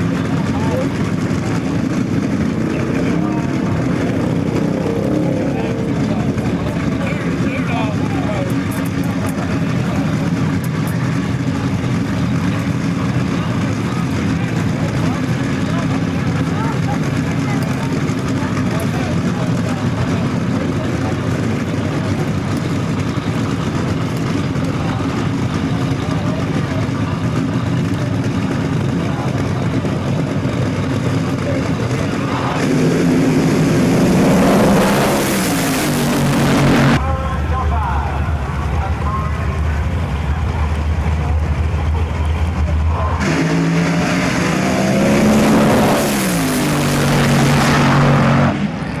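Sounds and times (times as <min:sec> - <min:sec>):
race car engine idling: 0:00.0 - 0:49.0.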